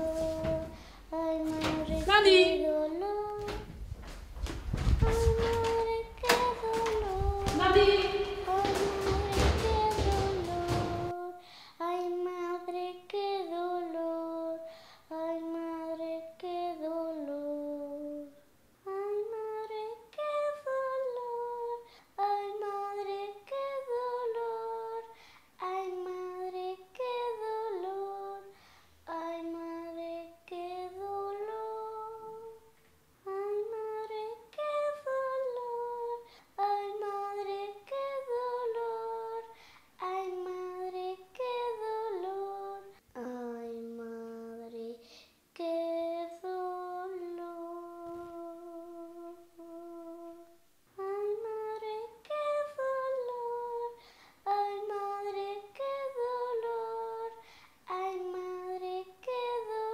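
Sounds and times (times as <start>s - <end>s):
person singing slow melody: 0.0s - 3.8s, 5.0s - 28.5s, 29.1s - 59.9s.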